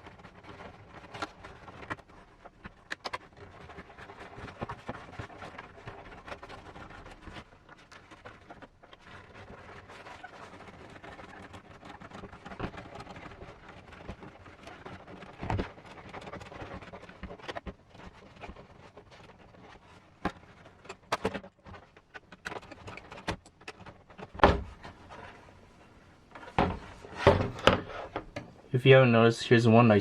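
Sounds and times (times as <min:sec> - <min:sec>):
plastic parts and screws clicking: 0:00.0 - 0:25.5.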